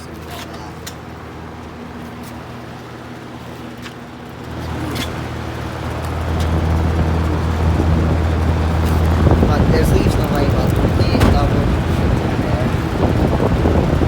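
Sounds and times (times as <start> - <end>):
box fan humming: 0.0 - 14.0.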